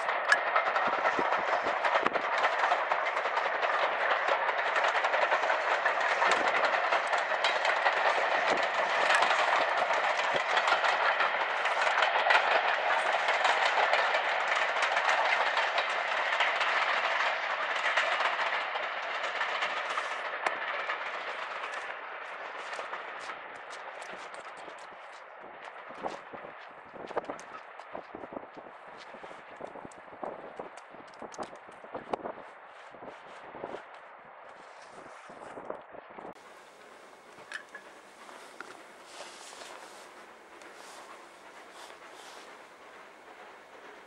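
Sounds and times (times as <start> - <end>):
steam train rushing past: 0.0 - 30.8, 36.3 - 44.0
wheels clicking and clattering: 0.0 - 34.0, 36.3 - 44.0.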